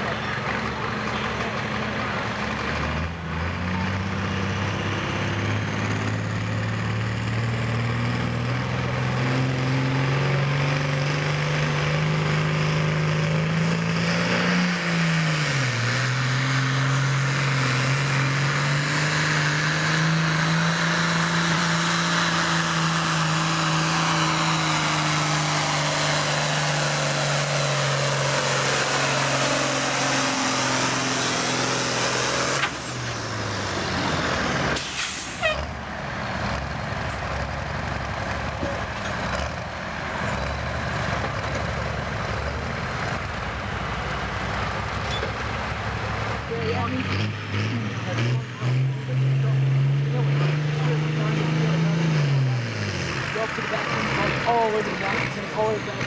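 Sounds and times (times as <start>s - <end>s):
diesel tractor engine at full throttle: 0.0s - 56.0s.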